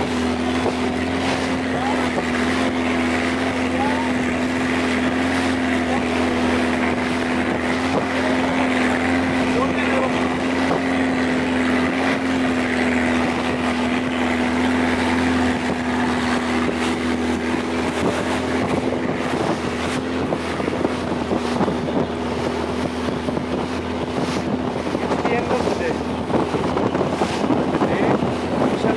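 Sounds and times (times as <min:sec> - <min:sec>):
hull rushing through water: 0:00.0 - 0:28.9
speedboat engine drone: 0:00.0 - 0:28.9
wind buffeting microphone: 0:00.0 - 0:28.9.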